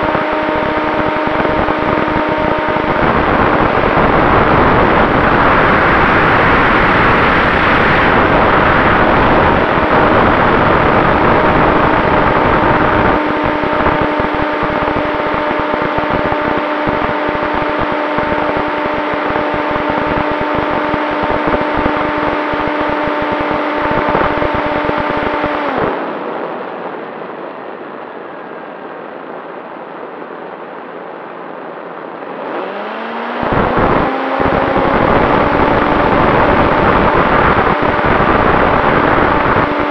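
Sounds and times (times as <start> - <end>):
electric motor and propeller whine: 0.0 - 27.4, 31.8 - 39.9
rushing air: 0.0 - 39.9.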